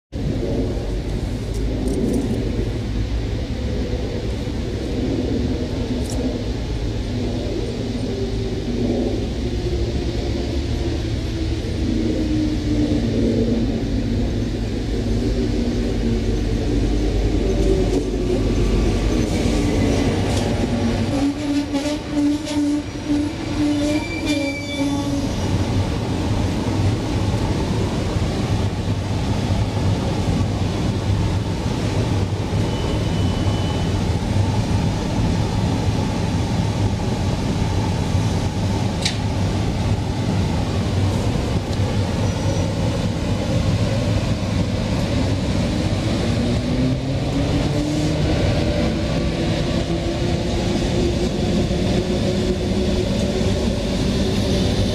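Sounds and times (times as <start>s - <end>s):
standing train low hum: 0.1s - 54.9s
electric train whine: 0.2s - 54.9s.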